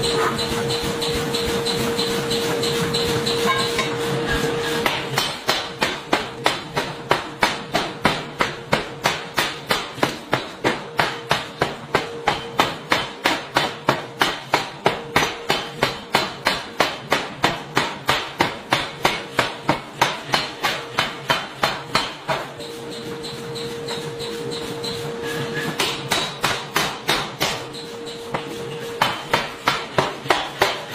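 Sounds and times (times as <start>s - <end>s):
forging hammer pounding steel: 0.0s - 30.9s.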